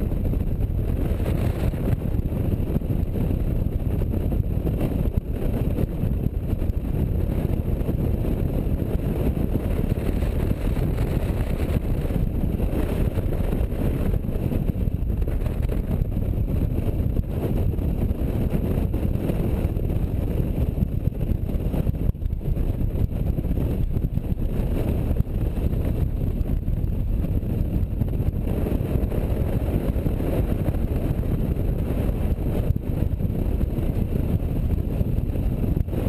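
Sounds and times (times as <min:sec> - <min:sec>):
motorcycle engine rumble: 0:00.0 - 0:36.0
wind buffeting microphone: 0:00.0 - 0:36.0.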